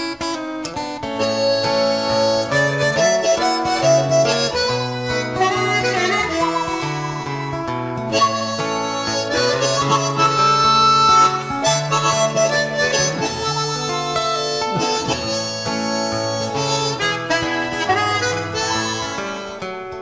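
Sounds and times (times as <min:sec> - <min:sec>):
instrumental music: 0:00.0 - 0:20.0.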